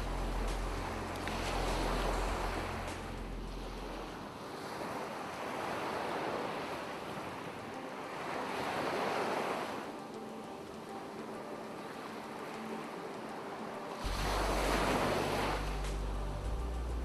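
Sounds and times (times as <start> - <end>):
surf washing onto beach: 0.0 - 16.9.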